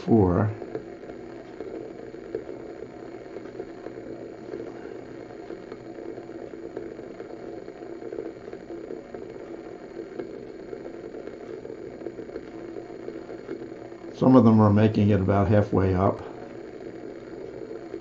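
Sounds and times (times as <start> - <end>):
water heating with rumbling hiss: 0.0 - 18.0.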